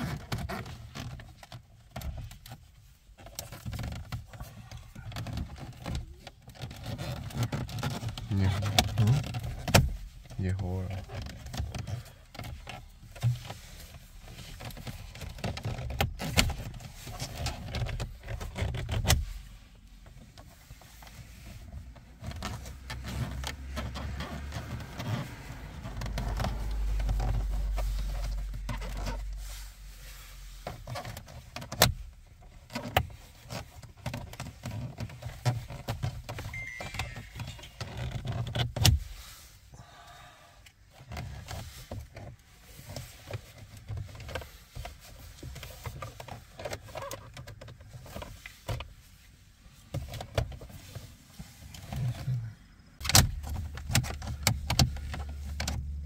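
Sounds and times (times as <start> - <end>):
plastic rattling and scraping: 0.0 - 39.4, 40.9 - 56.0.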